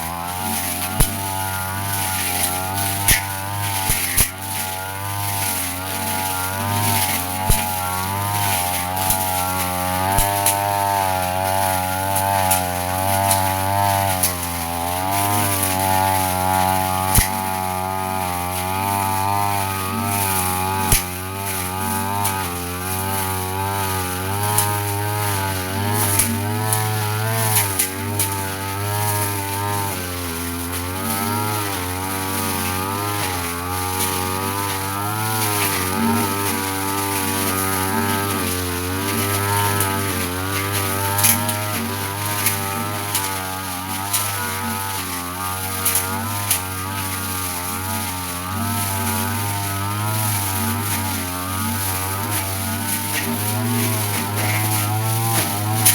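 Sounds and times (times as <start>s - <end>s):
blade snapping dry grass: 0.0s - 55.9s
brush cutter engine running: 0.0s - 55.9s.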